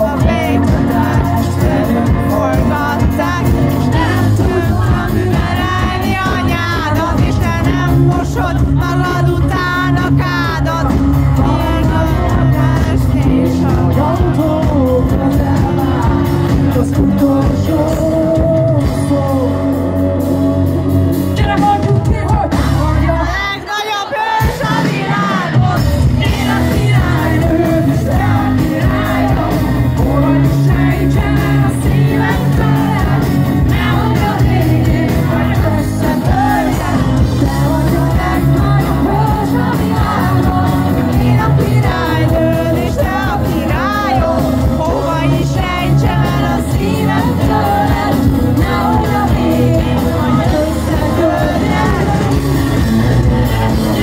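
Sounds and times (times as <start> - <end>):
live rock band playing: 0.0 - 54.0
woman singing lead: 0.0 - 54.0.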